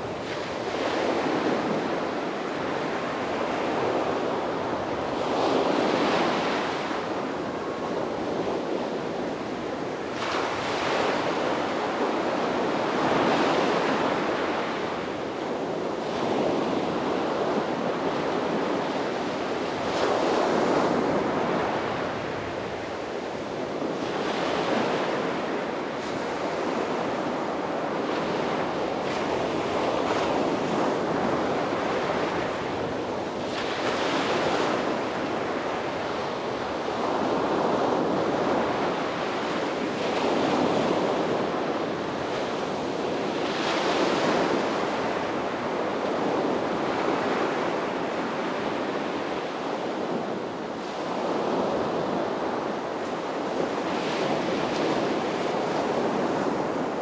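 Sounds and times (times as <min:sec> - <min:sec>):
sea waves breaking on beach: 0:00.0 - 0:57.0
wind noise on microphone: 0:00.0 - 0:57.0.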